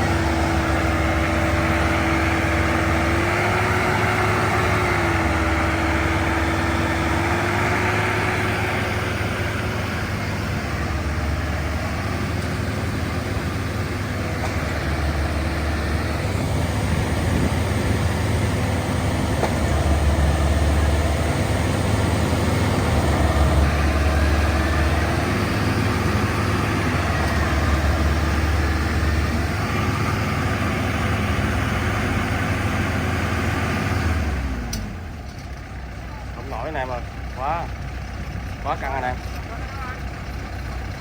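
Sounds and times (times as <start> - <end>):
diesel engine straining: 0.0 - 41.0.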